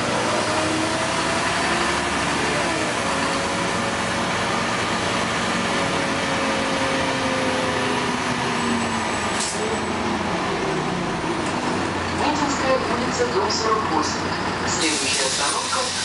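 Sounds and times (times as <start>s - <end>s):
bus engine and road noise: 0.0s - 16.0s
tyres on a wet road: 0.0s - 16.0s.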